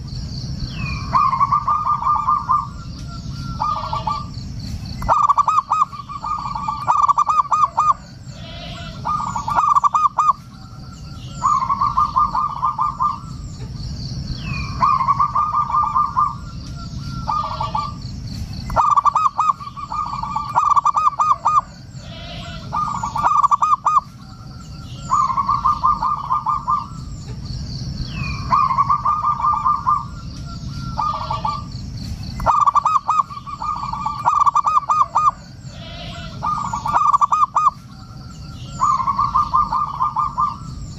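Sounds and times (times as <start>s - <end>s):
faint bird chirps: 0.0s - 40.9s
steady low noise: 0.0s - 40.9s
dove cooing: 0.8s - 13.6s, 14.4s - 18.1s, 18.7s - 27.2s, 28.1s - 40.9s.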